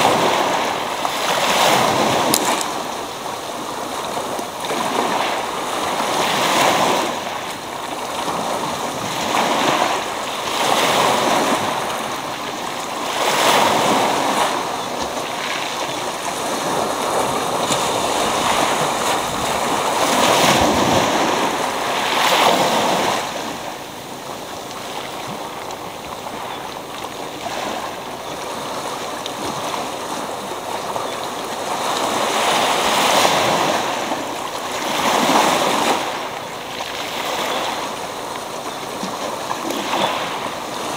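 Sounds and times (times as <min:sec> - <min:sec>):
waves breaking on pebble beach: 0:00.0 - 0:40.9.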